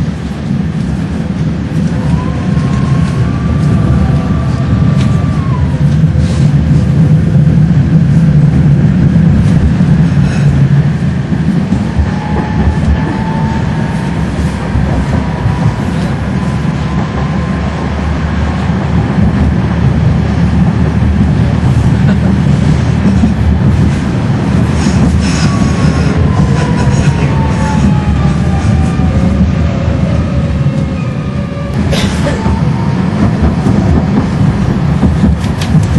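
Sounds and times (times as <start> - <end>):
tram wheels rumbling: 0.0 - 35.9.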